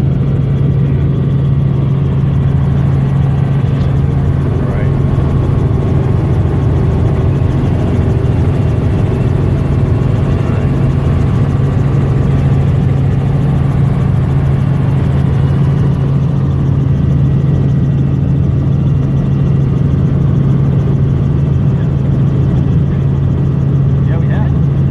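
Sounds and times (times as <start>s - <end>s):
helicopter engine and rotor: 0.0s - 24.9s.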